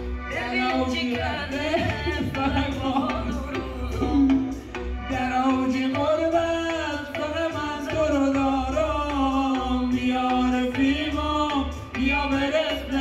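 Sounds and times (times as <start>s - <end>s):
man singing through speaker: 0.3s - 13.0s.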